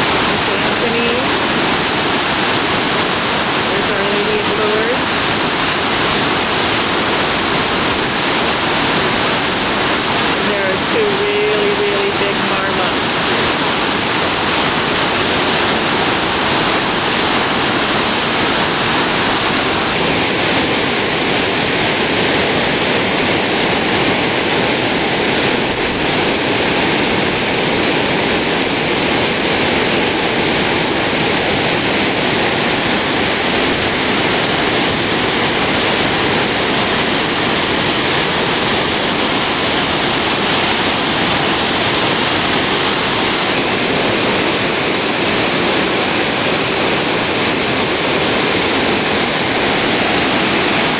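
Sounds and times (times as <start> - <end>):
rapids roaring: 0.0 - 50.9.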